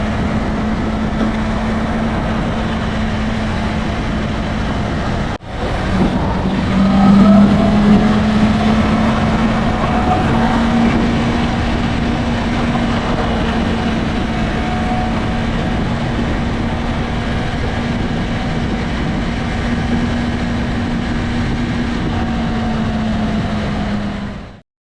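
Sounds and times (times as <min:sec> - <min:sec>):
motorcycle engine running: 0:00.0 - 0:24.5
wind and road noise: 0:00.0 - 0:24.6.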